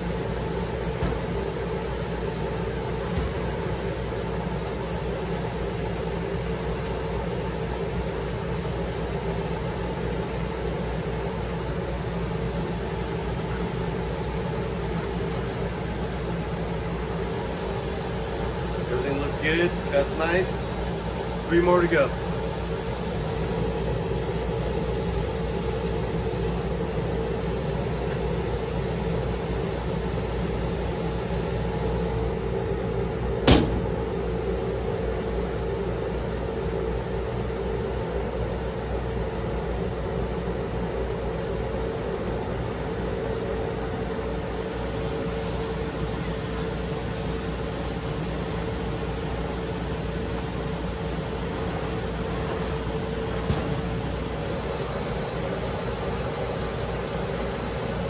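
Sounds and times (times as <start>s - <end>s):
laser cutter humming: 0.0s - 58.0s.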